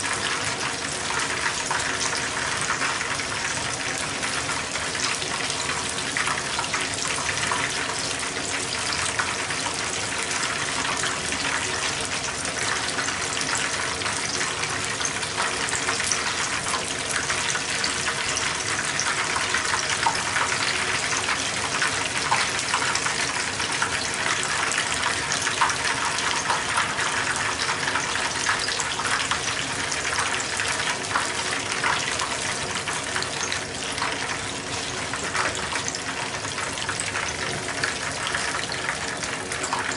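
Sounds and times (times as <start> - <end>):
batter frying in hot oil: 0.0 - 39.9.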